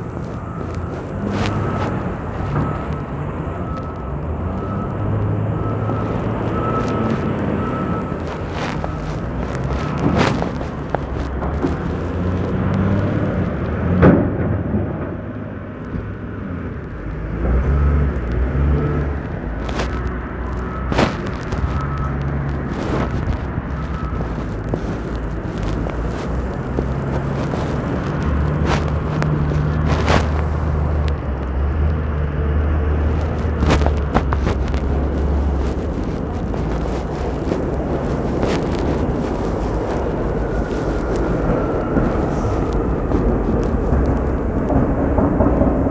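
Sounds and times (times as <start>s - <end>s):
low traffic hum: 0.0s - 45.9s
vehicles passing: 0.0s - 45.9s.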